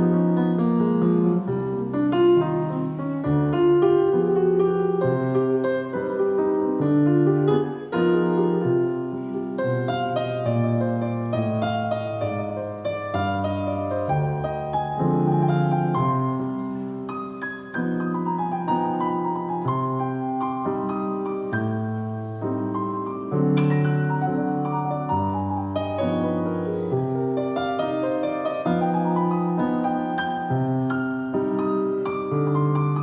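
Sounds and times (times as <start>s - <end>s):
jazz piano solo: 0.0s - 33.0s.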